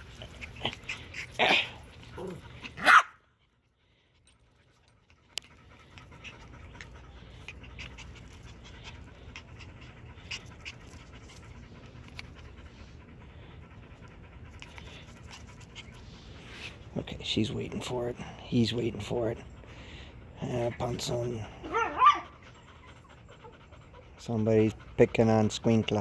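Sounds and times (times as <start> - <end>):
dog panting: 0.0 - 26.0.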